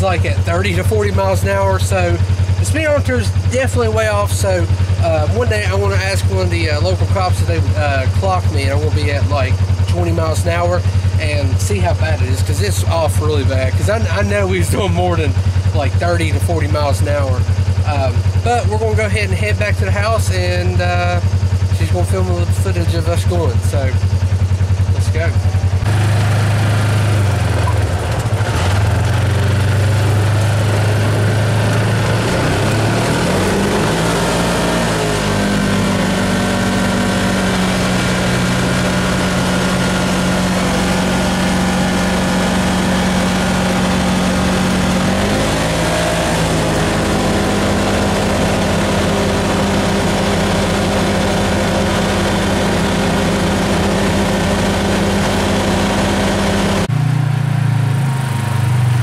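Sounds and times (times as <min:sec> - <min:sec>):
road noise: 0:00.0 - 0:20.1, 0:23.0 - 0:59.0
vehicle engine revving: 0:00.0 - 0:59.0.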